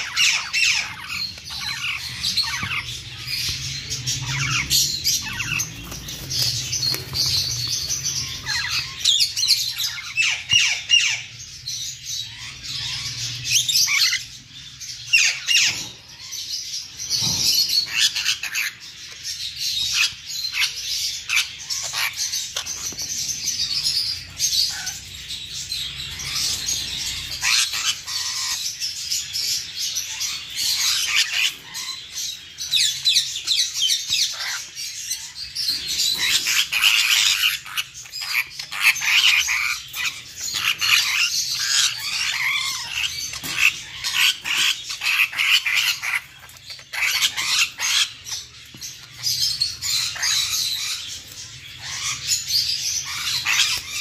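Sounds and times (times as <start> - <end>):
parrots chattering and squawking: 0.0 - 54.0.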